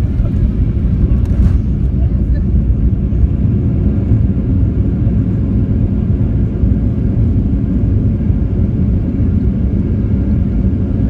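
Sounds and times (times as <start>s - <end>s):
airplane engines and wheels rumbling: 0.0s - 11.0s.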